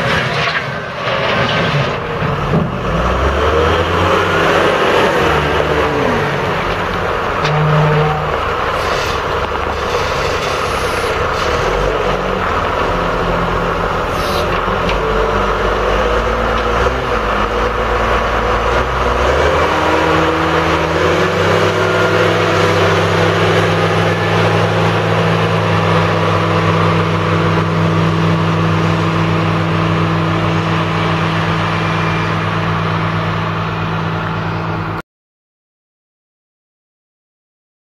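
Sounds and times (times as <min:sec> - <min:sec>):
wheel loader diesel engine running: 0:00.0 - 0:35.0.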